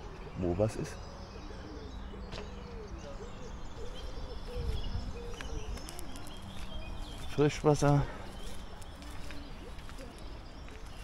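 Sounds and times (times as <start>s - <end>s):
bird cooing: 0.0s - 11.0s.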